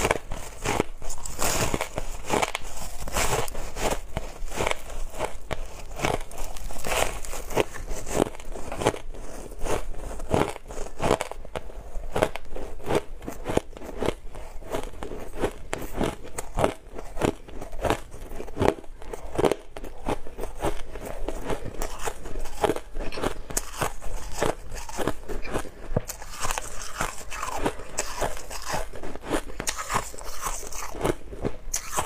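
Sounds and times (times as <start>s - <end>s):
ice crunching while chewed: 0.0s - 32.0s.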